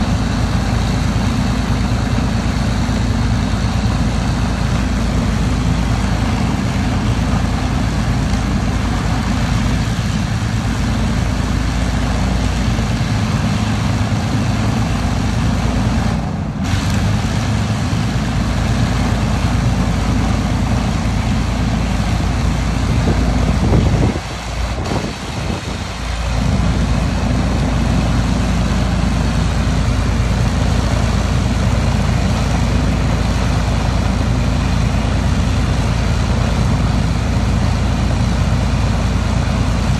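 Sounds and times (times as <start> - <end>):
aircraft engine droning: 0.0 - 39.9.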